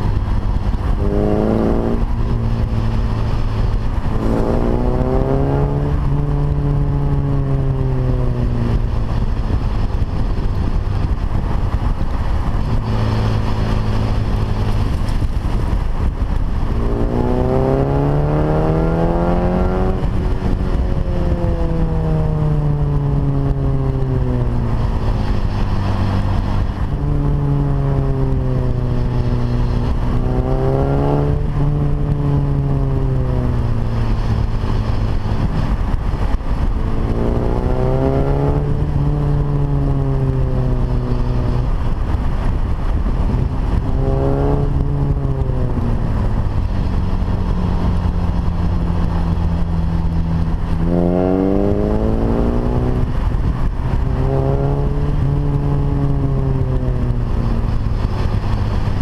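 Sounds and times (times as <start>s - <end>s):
car engine revving: 0.0s - 59.0s
wind and road noise: 0.0s - 59.0s.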